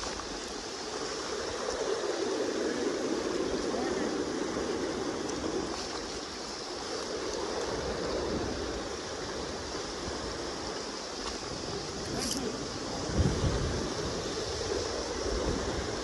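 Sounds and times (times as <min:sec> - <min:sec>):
river current rushing: 0:00.0 - 0:16.0.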